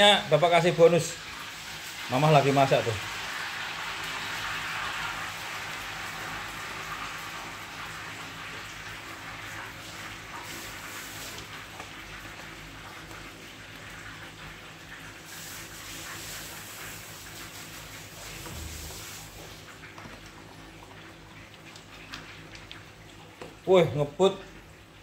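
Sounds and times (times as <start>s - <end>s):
food frying sizzle: 0.0s - 25.0s.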